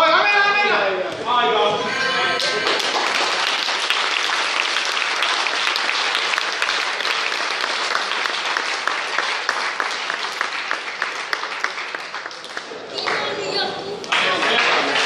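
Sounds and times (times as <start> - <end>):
crowd applauding: 1.9 - 15.0.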